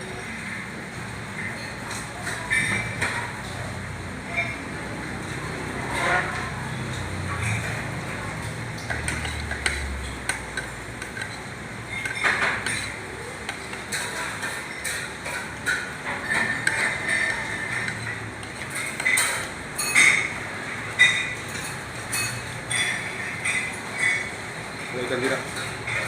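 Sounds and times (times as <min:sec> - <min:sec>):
restaurant background noise: 0:00.0 - 0:26.0
clinks of plates and cutlery: 0:01.4 - 0:03.7, 0:04.3 - 0:26.0.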